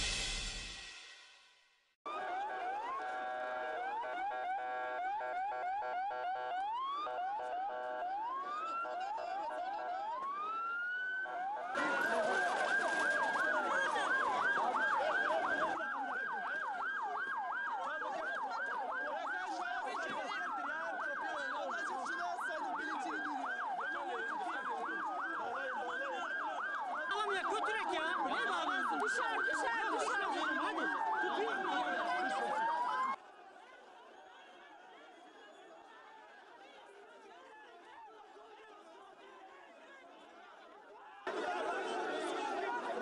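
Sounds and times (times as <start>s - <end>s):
ambulance sirens: 2.0s - 39.6s, 40.2s - 43.0s.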